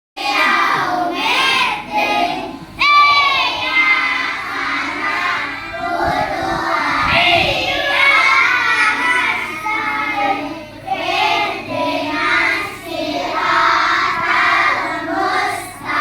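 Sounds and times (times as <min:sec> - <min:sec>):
children singing: 0:00.2 - 0:16.0.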